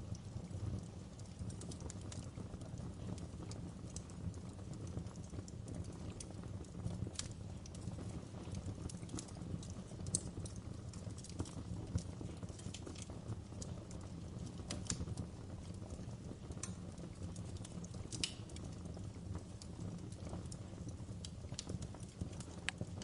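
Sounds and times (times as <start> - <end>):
fire popping and snapping: 0.0 - 23.0
low rumble of flames: 0.0 - 23.0.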